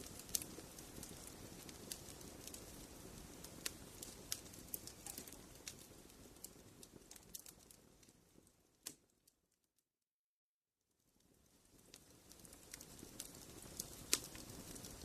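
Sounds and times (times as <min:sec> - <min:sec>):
wood fire crackling: 0:00.0 - 0:09.4, 0:11.0 - 0:15.0.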